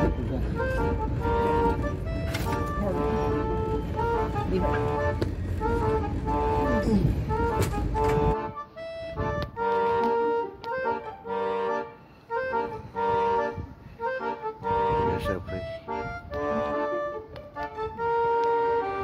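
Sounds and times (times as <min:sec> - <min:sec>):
instrumental melody of held notes: 0:00.0 - 0:19.0.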